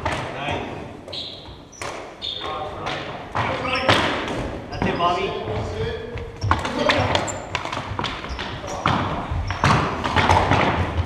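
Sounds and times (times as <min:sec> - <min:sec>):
hockey sticks clacking on ball: 0:00.0 - 0:11.0.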